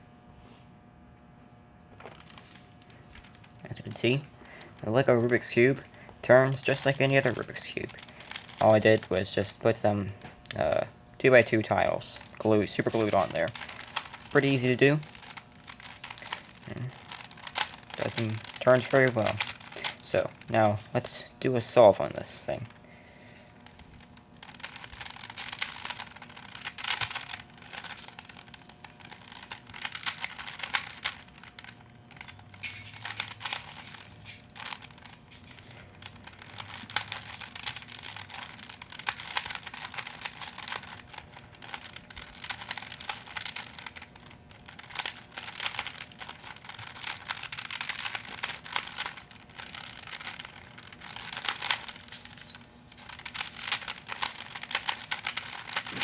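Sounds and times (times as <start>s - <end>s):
plastic cube clacking and scraping: 6.5s - 10.0s, 11.6s - 20.8s, 23.7s - 56.0s.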